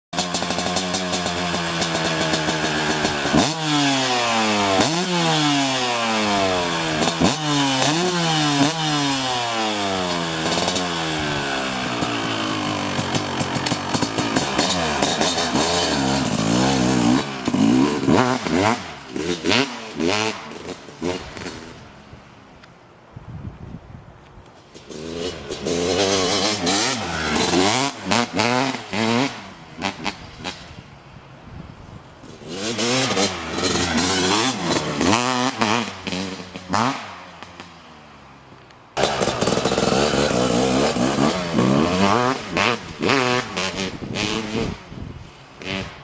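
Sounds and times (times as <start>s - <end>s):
two-stroke engine revving: 0.2s - 21.9s, 24.8s - 30.8s, 32.2s - 37.8s, 39.0s - 46.0s.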